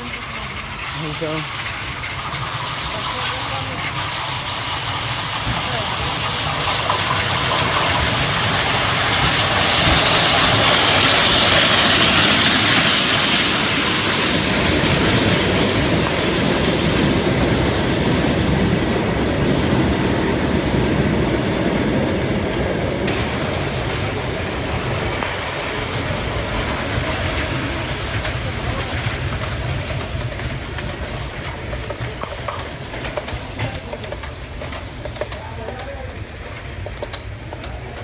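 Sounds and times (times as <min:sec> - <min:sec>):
railway wheels rumbling and clattering: 0:00.0 - 0:38.0.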